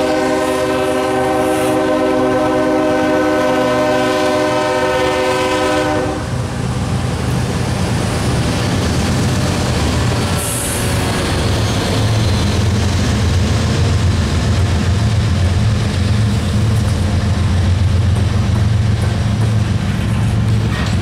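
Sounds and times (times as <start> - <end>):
diesel locomotives passing: 0.0 - 21.0.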